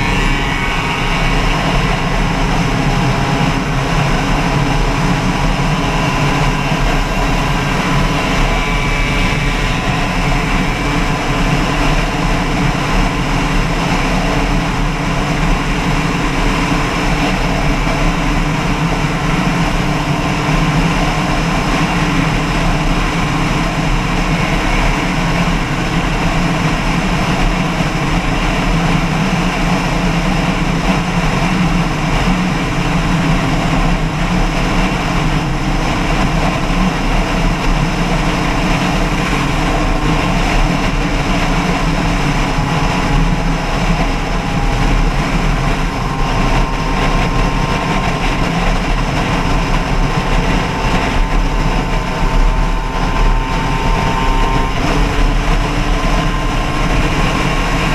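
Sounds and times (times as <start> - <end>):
engine running steadily: 0.0 - 57.9
faint high whine: 0.0 - 57.9
loud even rushing noise: 0.0 - 57.9.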